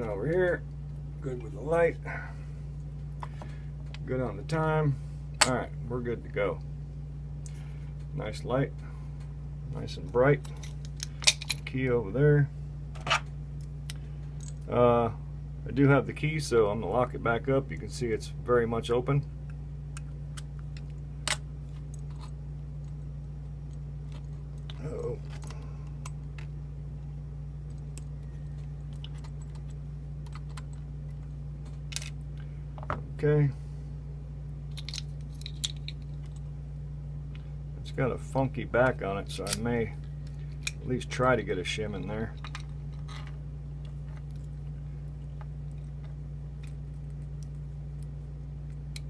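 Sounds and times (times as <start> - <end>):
electrical hum: 0.0 - 49.0.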